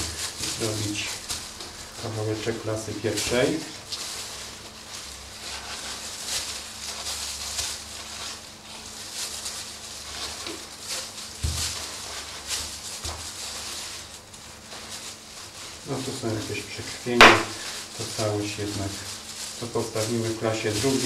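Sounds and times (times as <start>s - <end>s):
plastic gloves rustling: 0.0s - 21.0s
steady low hum: 0.0s - 21.0s.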